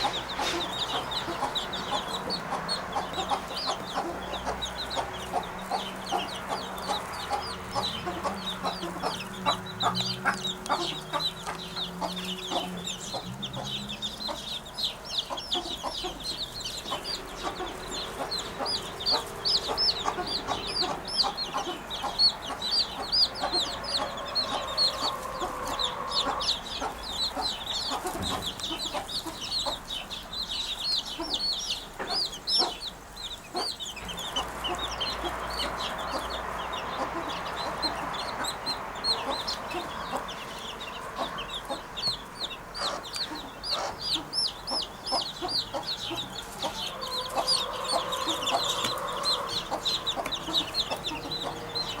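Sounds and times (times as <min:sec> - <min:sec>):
pigeons clucking: 0:00.0 - 0:52.0.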